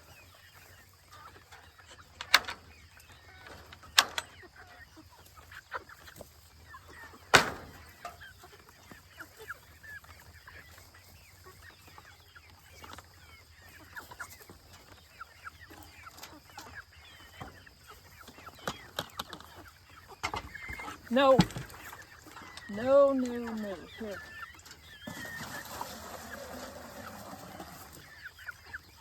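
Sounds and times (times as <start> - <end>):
chicks peeping and clucking: 0.0 - 29.0.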